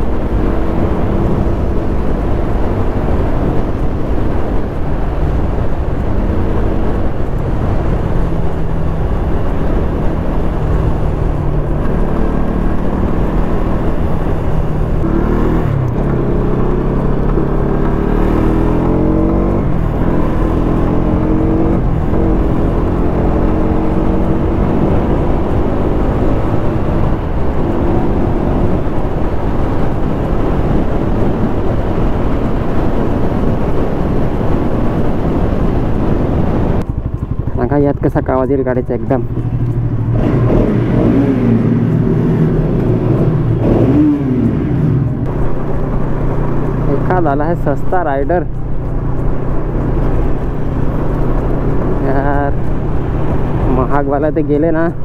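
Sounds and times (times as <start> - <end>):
motorcycle engine accelerating: 0.0 - 55.0
wind rumble on microphone: 0.0 - 55.0.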